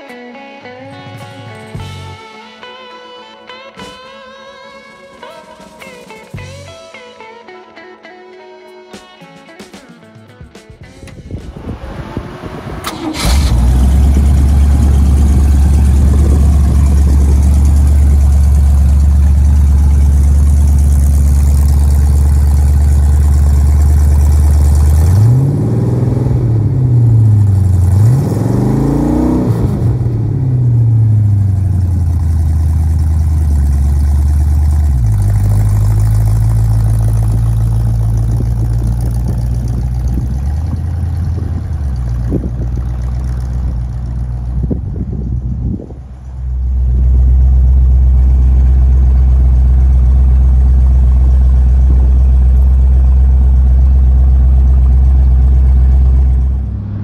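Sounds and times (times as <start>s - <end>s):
car engine idling and revving: 1.1s - 2.2s, 10.9s - 57.0s.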